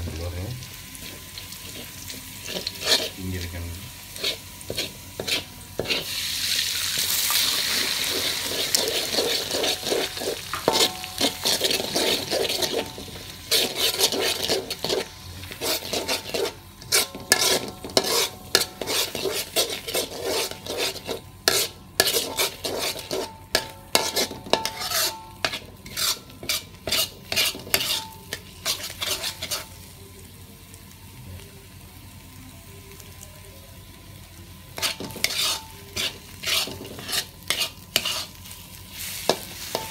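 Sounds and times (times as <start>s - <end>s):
eggs sizzling in hot oil: 0.0s - 39.9s
metal spatula scraping a wok: 1.0s - 3.2s, 4.1s - 29.8s, 34.8s - 39.9s.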